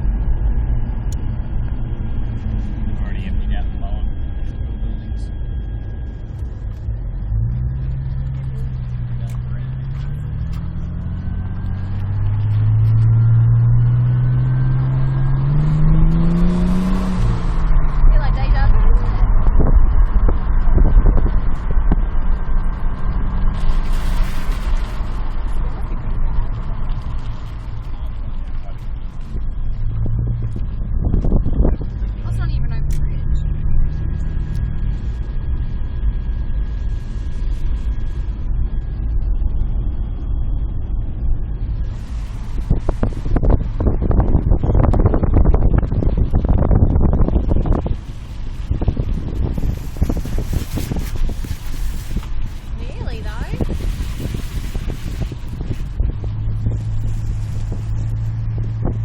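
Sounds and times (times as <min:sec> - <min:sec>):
faint steady whine: 0:00.0 - 0:59.0
vehicle engine accelerating: 0:00.0 - 0:59.0.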